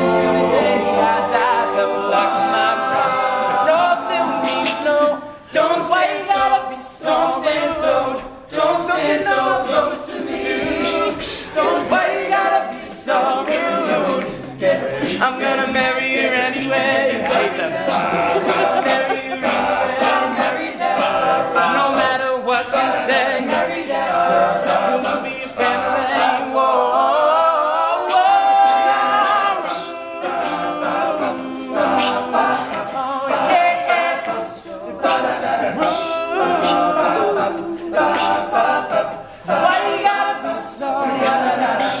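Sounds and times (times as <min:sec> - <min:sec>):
male a cappella group singing: 0:00.0 - 0:42.0.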